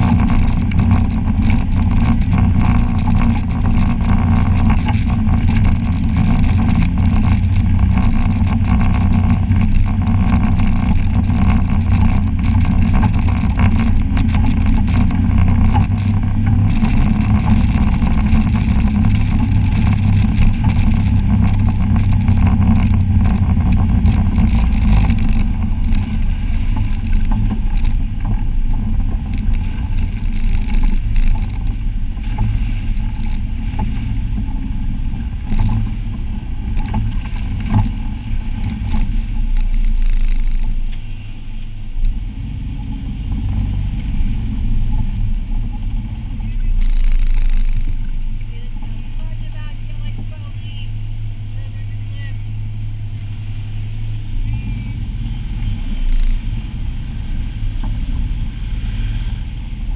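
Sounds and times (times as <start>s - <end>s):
clatter and ticks: 0.0s - 42.2s, 42.8s - 52.4s, 54.4s - 59.9s
vehicle engine running: 0.0s - 59.9s.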